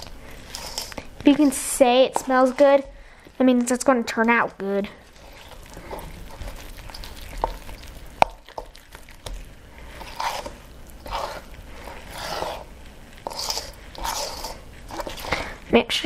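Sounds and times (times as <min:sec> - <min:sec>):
utensil stirring thick batter: 0:00.0 - 0:15.9.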